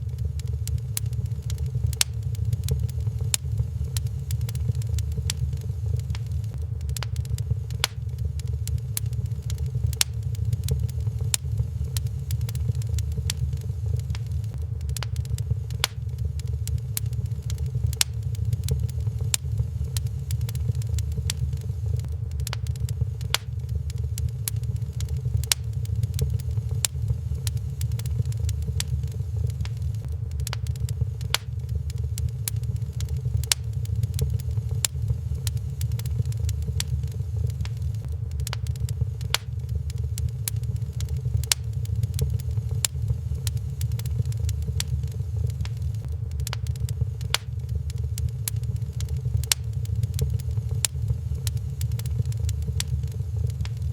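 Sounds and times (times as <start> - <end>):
low fire rumble: 0.0 - 53.9
wood fire crackling and popping: 0.0 - 53.9.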